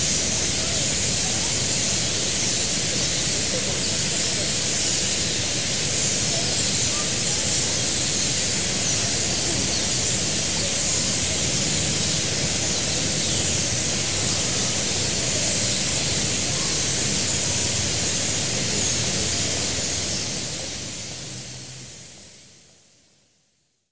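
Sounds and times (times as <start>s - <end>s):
starlings chattering: 0.0s - 22.2s.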